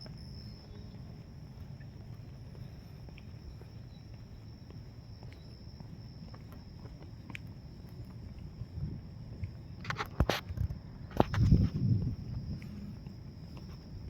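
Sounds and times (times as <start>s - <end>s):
faint footsteps: 0.0s - 14.0s
insects droning: 0.0s - 14.0s.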